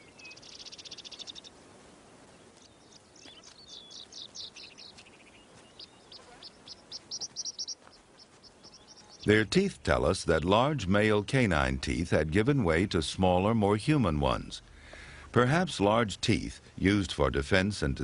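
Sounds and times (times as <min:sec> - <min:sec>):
birds singing: 0:00.0 - 0:01.6, 0:02.2 - 0:17.9.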